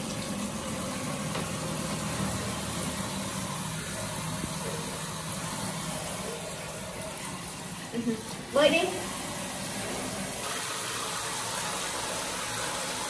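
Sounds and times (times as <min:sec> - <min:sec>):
muffled shower water running: 0:00.0 - 0:13.0.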